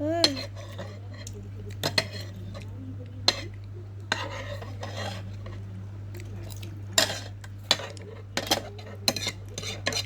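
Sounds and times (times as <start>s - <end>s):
cutlery clinking against bowl: 0.2s - 10.0s.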